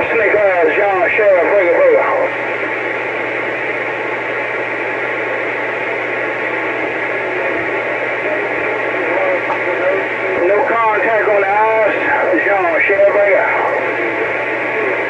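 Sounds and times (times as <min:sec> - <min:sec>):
low hum: 0:00.0 - 0:15.0
radio static hiss: 0:00.0 - 0:15.0.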